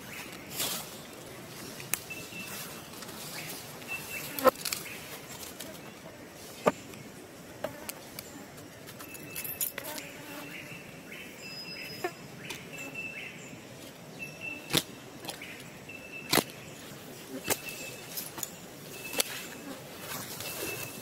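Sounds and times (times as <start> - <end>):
forest ambience: 0.0 - 21.0.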